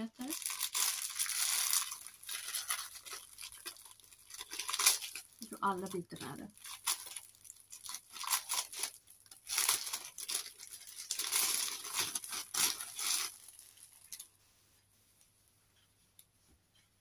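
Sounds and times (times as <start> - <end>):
plastic bag crinkling: 0.1 - 14.3.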